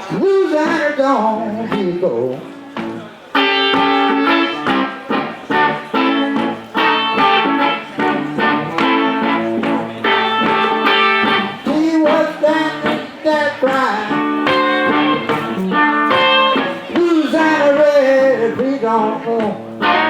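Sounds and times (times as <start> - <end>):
blues band playing live: 0.0 - 20.0
person singing: 0.0 - 20.0
electric guitar lead: 0.4 - 20.0.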